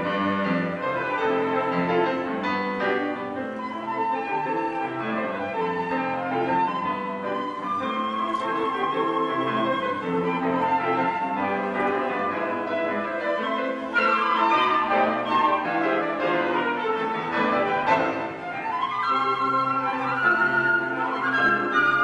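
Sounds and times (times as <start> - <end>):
flute ensemble playing: 0.0 - 22.0.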